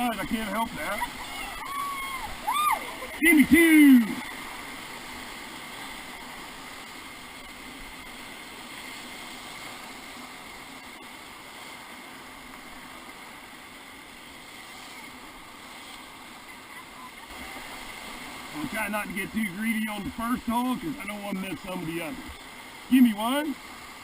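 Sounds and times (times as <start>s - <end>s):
whitewater river rushing: 0.0s - 24.0s.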